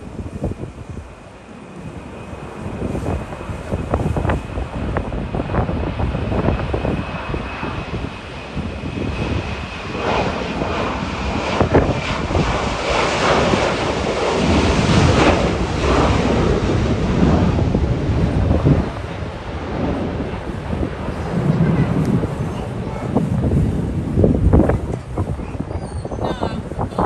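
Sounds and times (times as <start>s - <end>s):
jet engines rumbling: 0.0s - 27.0s
wind buffeting microphone: 0.0s - 27.0s.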